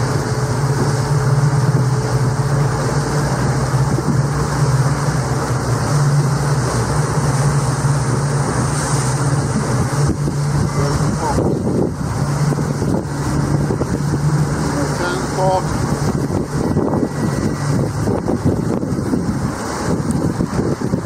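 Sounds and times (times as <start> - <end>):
motorboat engine drone: 0.0 - 21.0
water rushing: 0.0 - 21.0
wind: 0.0 - 21.0.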